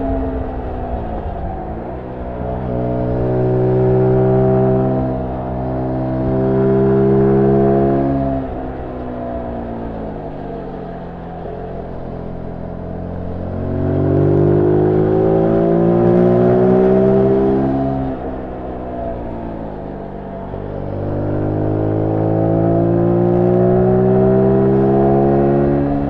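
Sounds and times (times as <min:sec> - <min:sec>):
motorcycle engine under way: 0:00.0 - 0:26.0.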